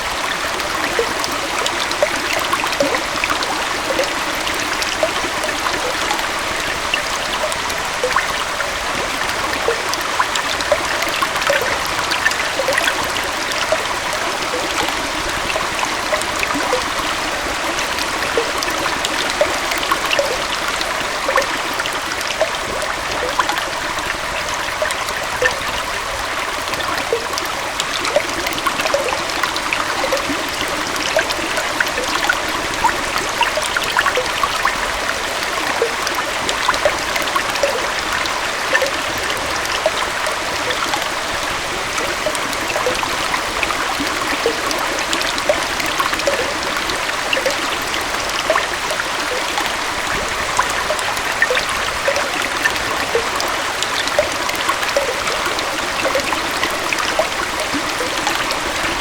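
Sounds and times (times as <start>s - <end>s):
waterfall and stream flowing: 0.0s - 59.0s.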